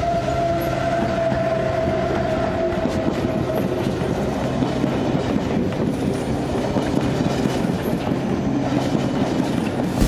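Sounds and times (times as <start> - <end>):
train wheels clattering on rails: 0.0 - 10.0.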